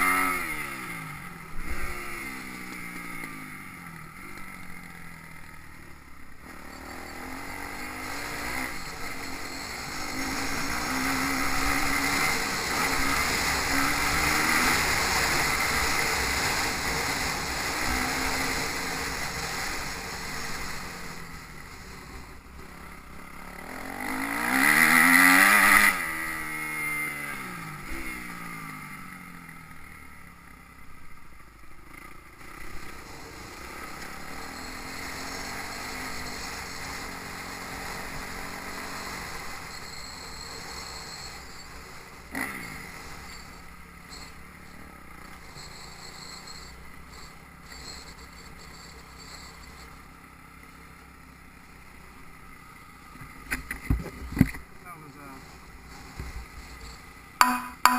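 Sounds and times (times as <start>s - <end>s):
motocross bike engines revving: 0.0s - 57.9s.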